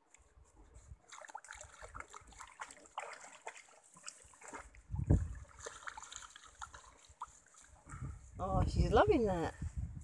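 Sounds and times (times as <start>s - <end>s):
river water splashing and trickling: 0.0s - 9.5s.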